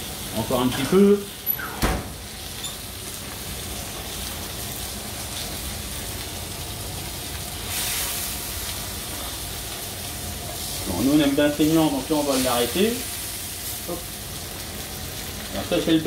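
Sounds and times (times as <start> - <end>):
burger patties sizzling on griddle: 0.0 - 16.0.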